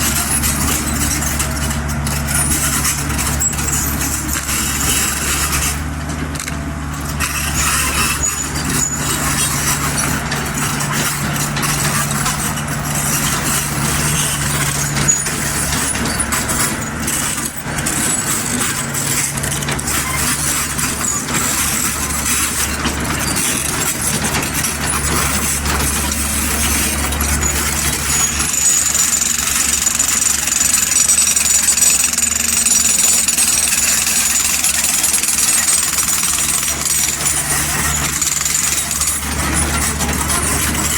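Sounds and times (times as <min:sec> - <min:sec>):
diesel engine running: 0:00.0 - 0:40.9
mechanical clatter: 0:00.0 - 0:40.9.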